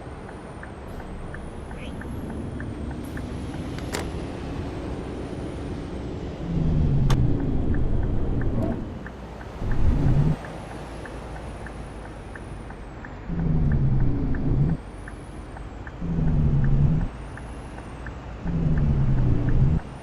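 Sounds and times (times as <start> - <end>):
light ticking: 0.0 - 4.0, 6.7 - 20.0
bus engine and road noise: 0.0 - 20.0.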